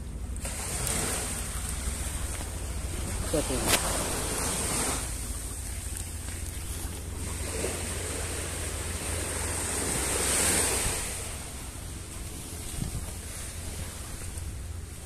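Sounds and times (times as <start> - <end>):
sea waves washing ashore: 0.0 - 15.0
wind buffeting the microphone: 0.8 - 15.0.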